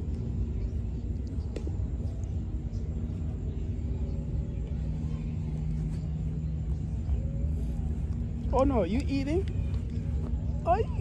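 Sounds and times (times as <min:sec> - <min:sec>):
distant engine drone: 0:00.0 - 0:11.0
low rumble: 0:00.0 - 0:11.0.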